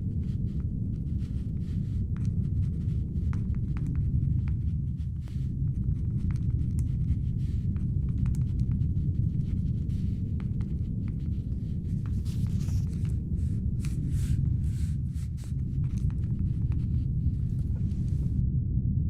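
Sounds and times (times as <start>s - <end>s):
soft rustles: 0.0s - 18.4s
steady low hum: 0.0s - 19.0s
laptop keyboard typing: 0.5s - 18.3s.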